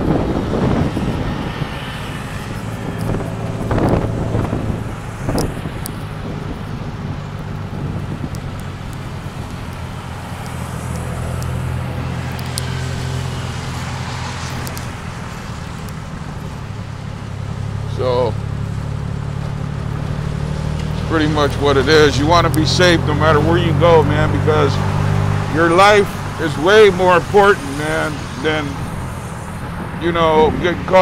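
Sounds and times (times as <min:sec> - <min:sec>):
road and traffic noise: 0:00.0 - 0:31.0.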